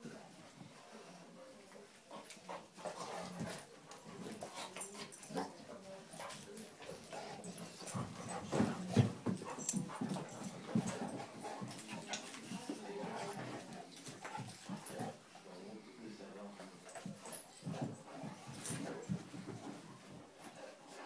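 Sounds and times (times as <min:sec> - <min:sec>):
dogs scuffling in a fight: 0:01.8 - 0:15.9, 0:16.5 - 0:21.0.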